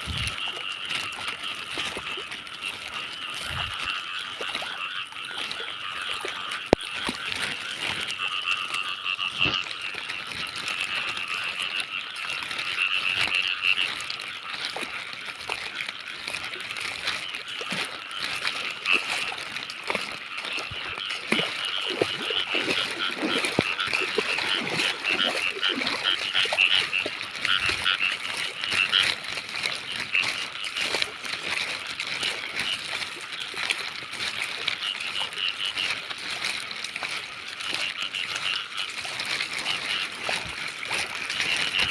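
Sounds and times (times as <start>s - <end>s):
frogs calling: 0.0s - 41.9s.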